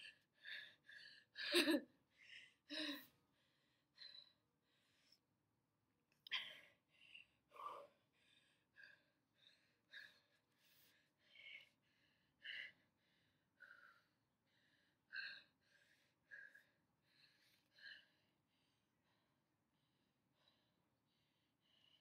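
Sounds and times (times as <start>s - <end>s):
woman breathing heavily: 0.0s - 5.2s, 6.3s - 22.0s.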